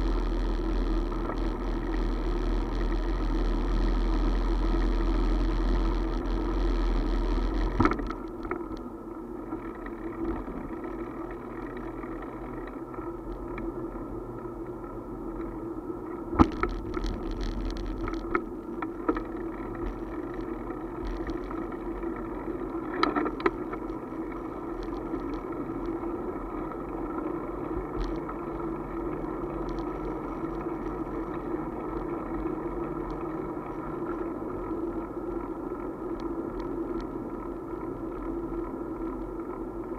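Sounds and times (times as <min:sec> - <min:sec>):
two-wheeler ride hum: 0:00.0 - 0:39.9
wind rumble on microphone: 0:00.0 - 0:39.9.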